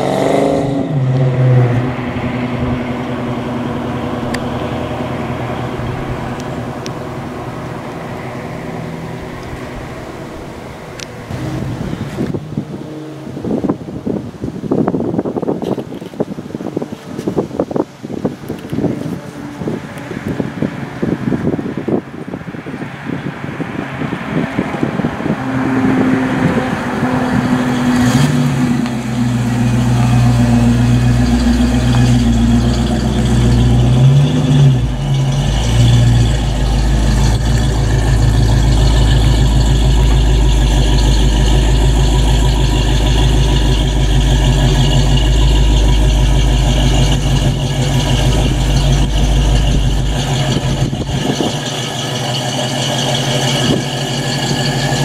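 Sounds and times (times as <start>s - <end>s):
car engine revving and idling: 0.0s - 14.8s, 15.7s - 55.0s.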